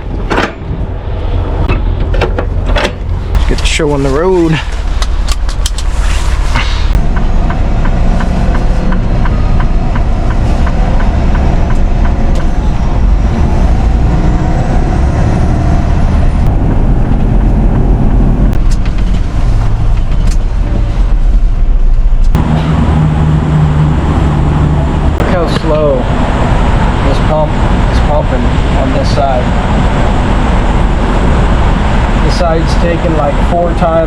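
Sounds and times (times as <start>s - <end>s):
diesel truck engine running: 0.0s - 34.0s.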